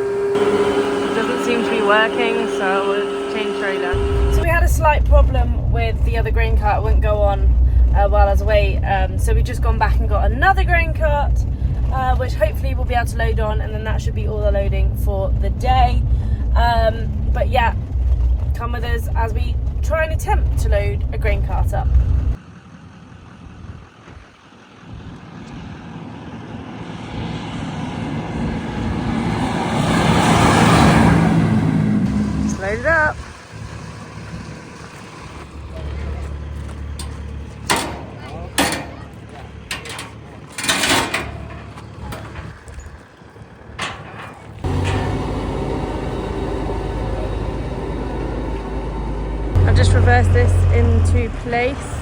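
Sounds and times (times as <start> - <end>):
tractor diesel engine: 0.0 - 52.0.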